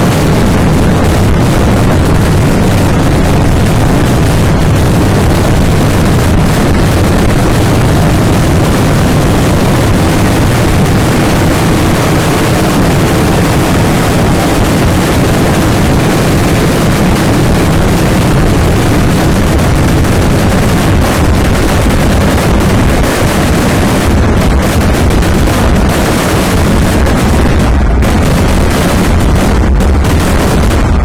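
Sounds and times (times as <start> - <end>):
fireworks barrage rumble: 0.0 - 31.0.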